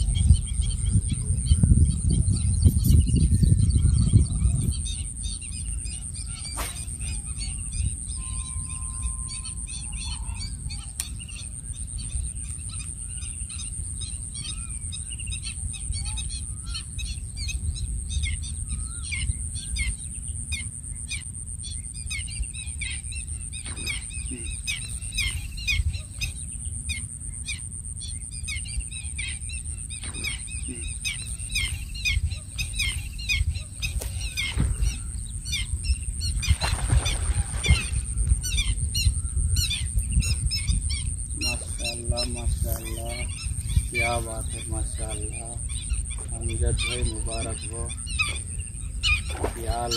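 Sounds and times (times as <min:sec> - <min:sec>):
small birds chirping: 0:00.0 - 0:49.9
wind rumbling on microphone: 0:00.0 - 0:49.9.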